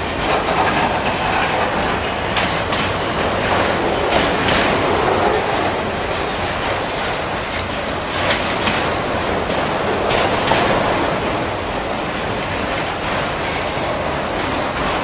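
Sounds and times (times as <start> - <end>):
freight train rolling past: 0.0 - 15.0
wheel clacks on rails: 0.0 - 15.0.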